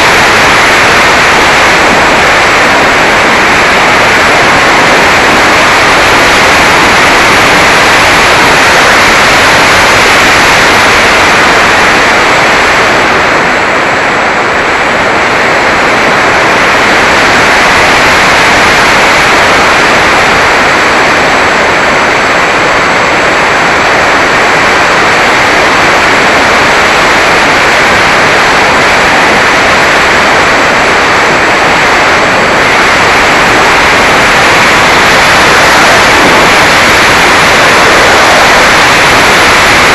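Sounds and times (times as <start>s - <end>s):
propeller noise: 0.0s - 39.9s
wind rush: 0.0s - 39.9s.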